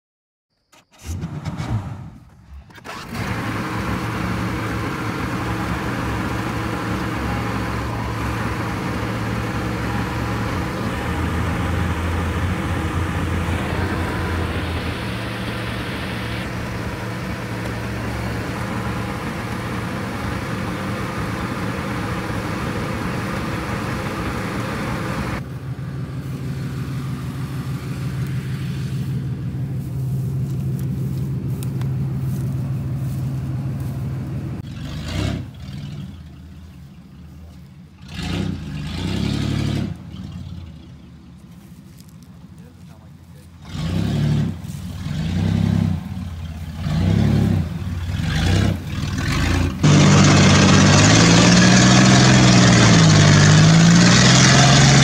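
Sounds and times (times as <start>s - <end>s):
vehicle engine running: 1.1s - 55.0s.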